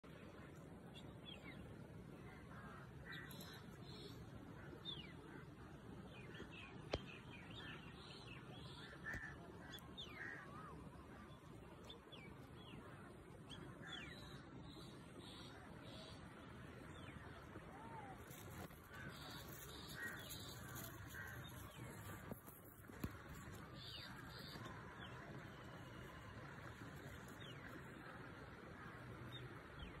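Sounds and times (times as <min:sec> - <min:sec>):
faint birdsong: 0:00.0 - 0:30.0
low steady background hiss: 0:00.0 - 0:30.0.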